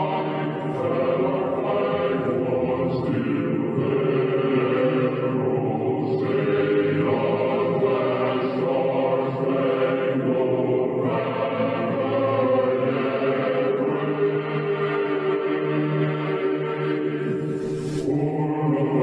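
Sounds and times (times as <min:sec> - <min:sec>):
slow choir-like chords: 0:00.0 - 0:19.0.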